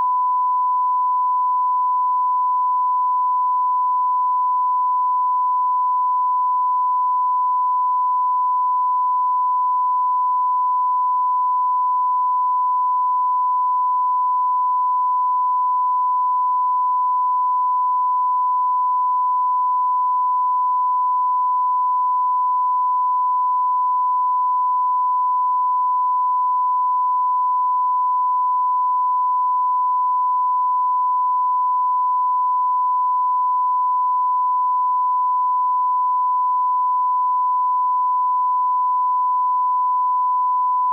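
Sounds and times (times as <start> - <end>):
censor bleep: 0.0 - 40.9.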